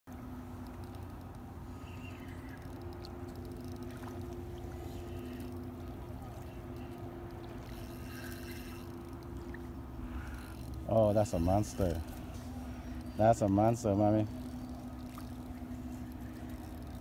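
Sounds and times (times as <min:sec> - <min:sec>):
low motor hum: 0:00.1 - 0:17.0.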